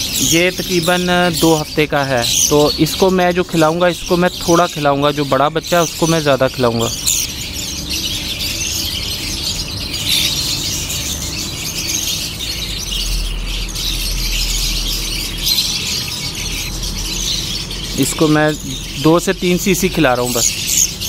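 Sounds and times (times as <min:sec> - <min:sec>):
bird chick squealing and chittering: 0:00.0 - 0:21.0.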